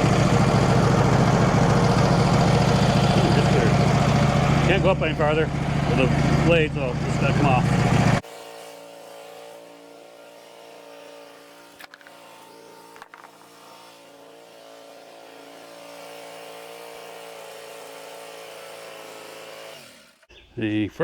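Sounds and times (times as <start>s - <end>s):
small engine running: 0.0s - 20.3s.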